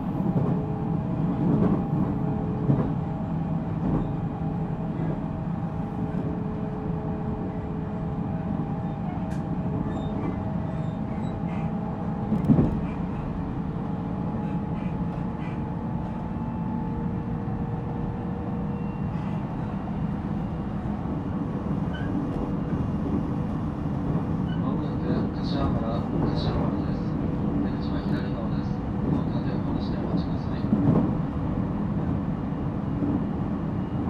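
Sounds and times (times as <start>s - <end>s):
wheel and rail rumble: 0.0s - 34.0s.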